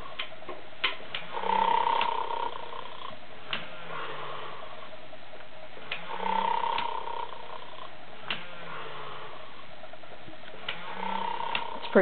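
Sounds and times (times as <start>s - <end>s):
toy speaker snoring: 1.2s - 12.0s.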